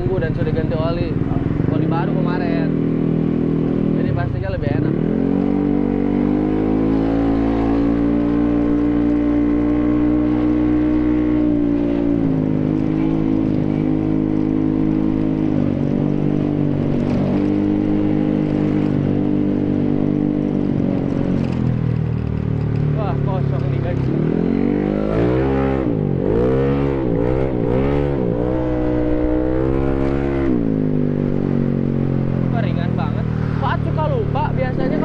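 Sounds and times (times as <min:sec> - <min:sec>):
scooter engine revving: 0:00.0 - 0:35.0.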